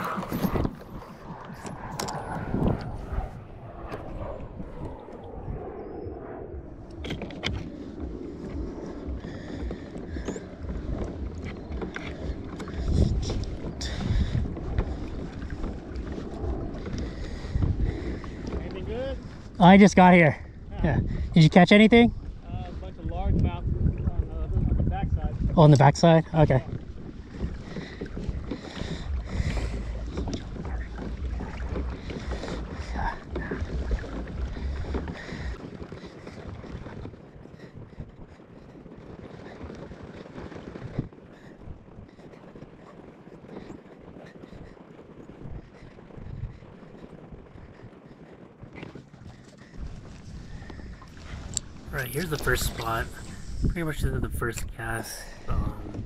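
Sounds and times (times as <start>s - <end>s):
water sloshing against kayak hull: 0.0s - 5.3s, 6.8s - 21.3s, 22.1s - 53.8s
wind buffeting microphone: 0.0s - 56.0s.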